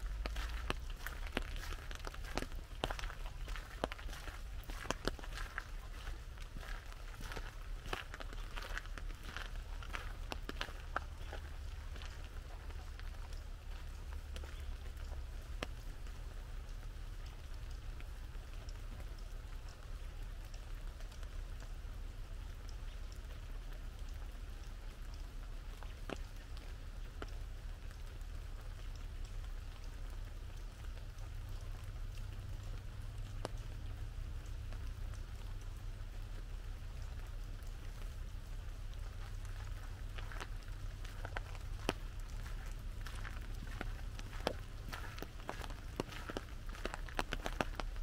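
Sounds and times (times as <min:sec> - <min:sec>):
low rumble: 0:00.0 - 0:25.9, 0:28.0 - 0:48.0
light rain falling: 0:00.0 - 0:48.0.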